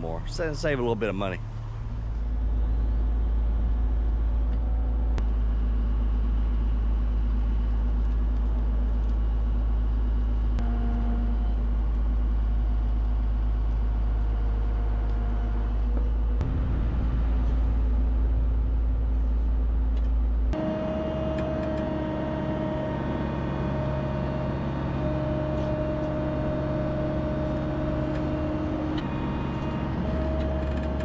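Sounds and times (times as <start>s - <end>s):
heavy equipment engine drone: 0.0s - 31.0s.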